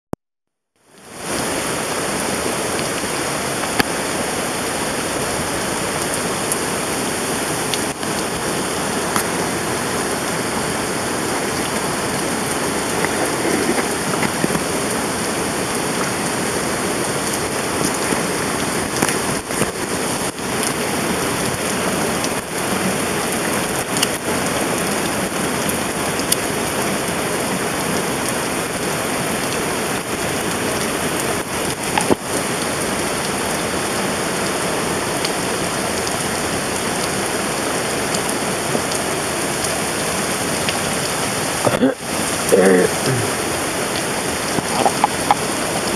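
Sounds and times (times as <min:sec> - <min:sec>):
steady rain falling: 0:00.8 - 0:45.9.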